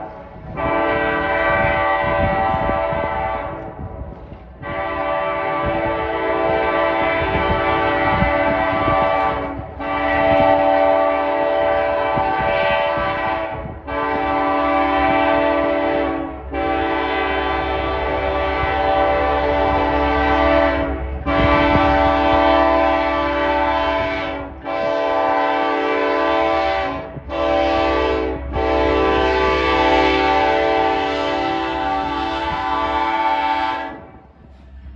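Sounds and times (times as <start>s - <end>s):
locomotive air horn blasts: 0.0s - 34.3s.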